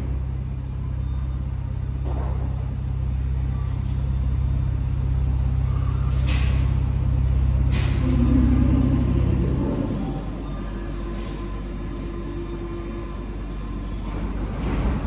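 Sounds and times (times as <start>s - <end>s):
metro train humming: 0.0s - 15.0s.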